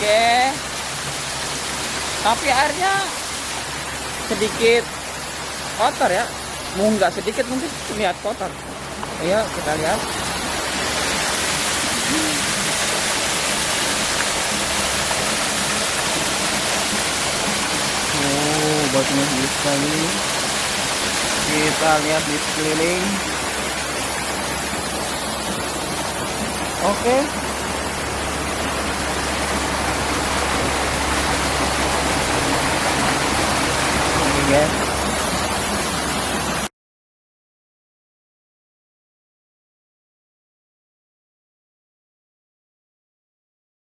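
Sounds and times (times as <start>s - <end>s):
waterfall rushing: 0.0s - 36.7s.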